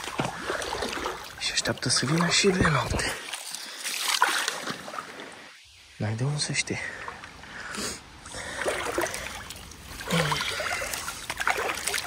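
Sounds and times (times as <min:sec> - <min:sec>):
river water being stirred: 0:00.0 - 0:05.6, 0:06.9 - 0:12.0.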